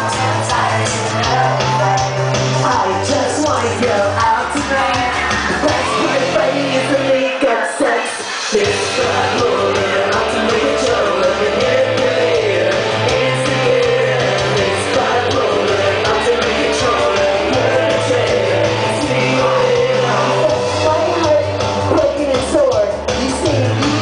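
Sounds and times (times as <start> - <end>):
backing track with bass line: 0.0 - 24.0
person singing: 0.0 - 24.0.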